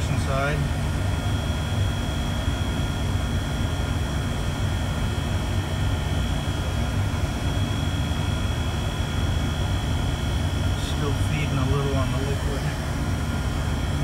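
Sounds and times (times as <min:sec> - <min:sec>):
faint high whine: 0:00.0 - 0:14.0
low machinery rumble: 0:00.0 - 0:14.0.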